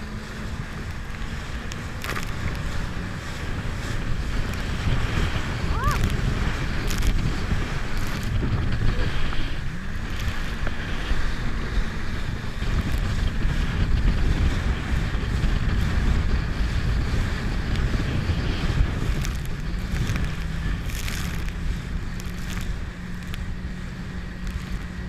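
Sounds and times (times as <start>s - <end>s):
jet ski engine: 0.0s - 25.0s
wind buffeting microphone: 0.0s - 25.0s.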